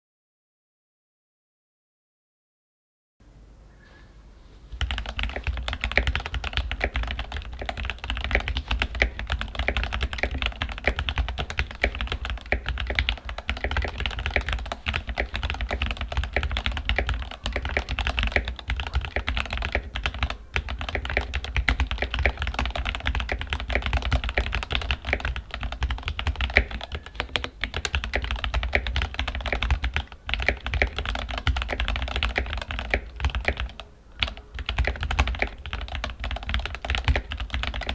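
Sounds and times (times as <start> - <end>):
mechanical keyboard typing: 4.8 - 37.9.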